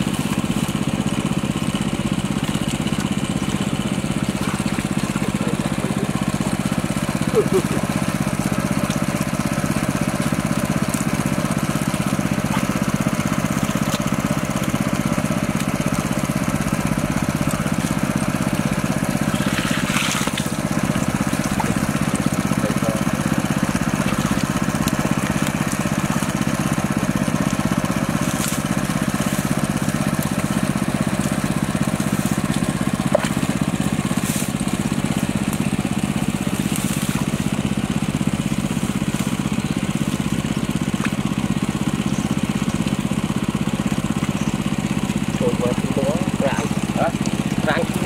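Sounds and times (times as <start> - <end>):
hands splashing in wet mud: 0.0 - 45.4
small engine running: 0.0 - 48.0.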